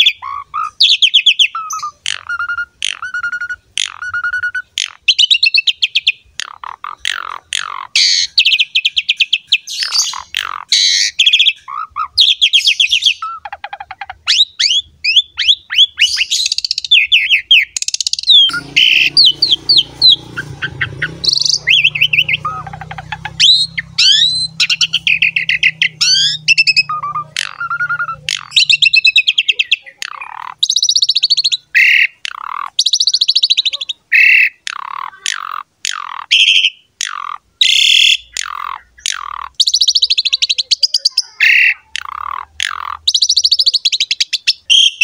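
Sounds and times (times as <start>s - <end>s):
starling singing: 0.0s - 45.0s.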